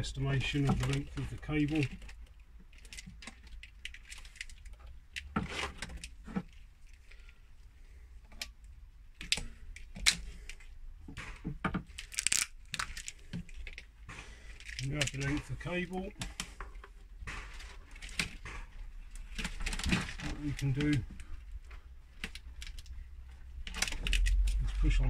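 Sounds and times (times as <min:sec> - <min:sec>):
plastic conduit rustling and clicking: 0:00.0 - 0:25.0.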